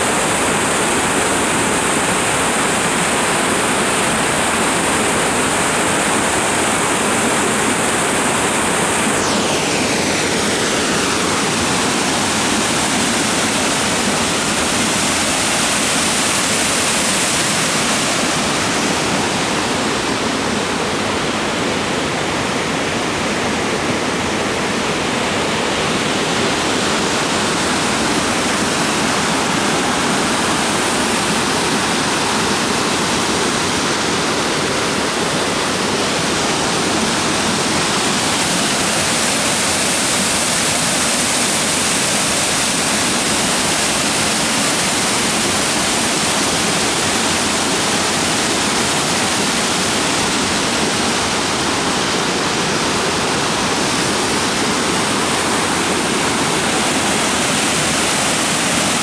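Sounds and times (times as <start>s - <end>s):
water rushing over a dam: 0.0s - 59.0s.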